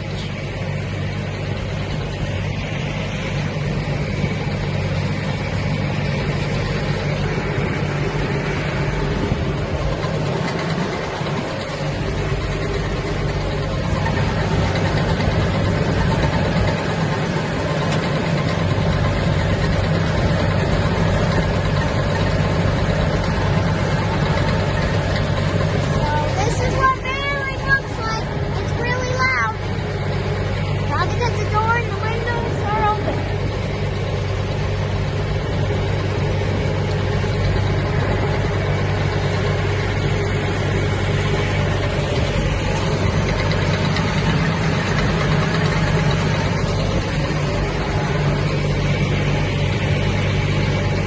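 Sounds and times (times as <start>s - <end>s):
baler machinery running: 0.0s - 51.0s
tractor engine running: 0.0s - 51.0s.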